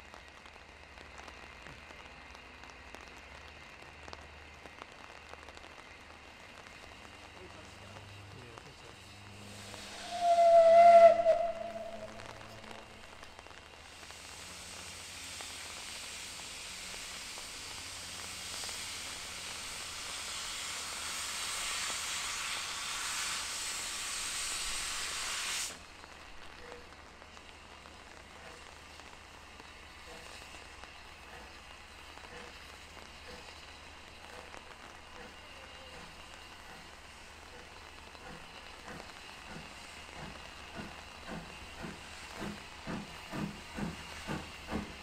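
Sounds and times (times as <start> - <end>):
rain: 0.0 - 45.0
steam hissing from locomotive: 6.4 - 45.0.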